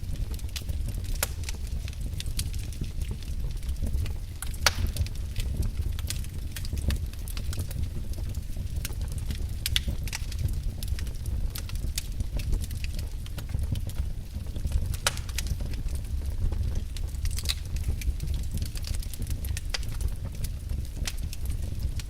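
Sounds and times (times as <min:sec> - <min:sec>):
fire flames rumbling: 0:00.0 - 0:22.0
logs crackling and popping: 0:00.0 - 0:22.0.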